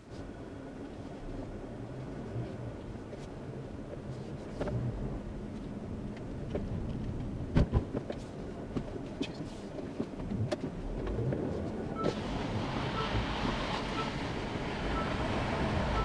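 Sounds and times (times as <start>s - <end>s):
car cabin low rumble: 0.0s - 16.0s.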